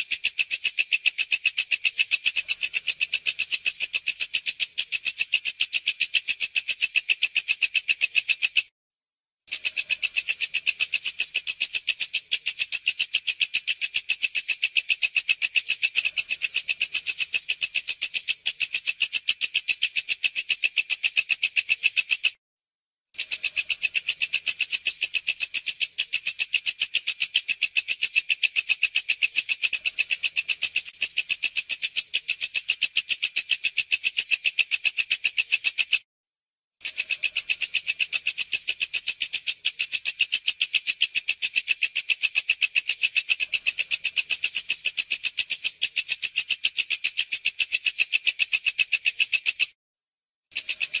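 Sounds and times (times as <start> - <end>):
katydid chirping: 0.0 - 8.6, 9.5 - 22.3, 23.2 - 36.0, 36.8 - 49.7, 50.6 - 51.0.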